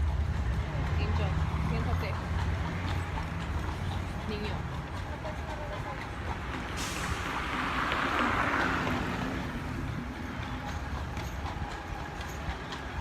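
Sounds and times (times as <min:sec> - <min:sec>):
low traffic rumble: 0:00.0 - 0:13.0
vehicle passing: 0:00.0 - 0:13.0.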